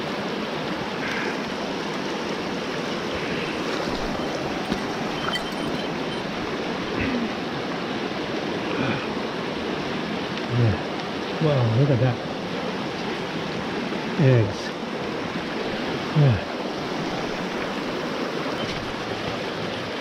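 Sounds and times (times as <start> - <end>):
stream running over stones: 0.0 - 20.0.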